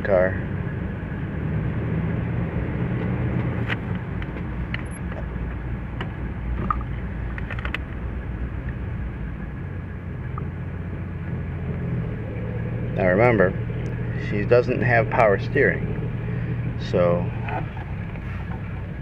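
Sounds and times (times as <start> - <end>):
car engine running at low speed: 0.0 - 19.0.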